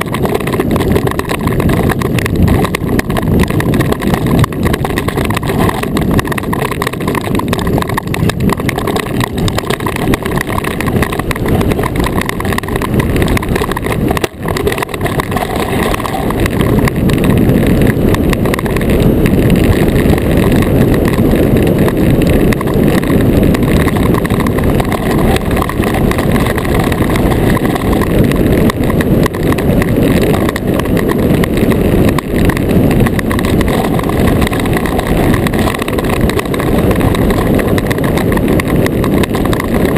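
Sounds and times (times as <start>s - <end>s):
iceboat runners rumbling on ice: 0.0s - 39.9s.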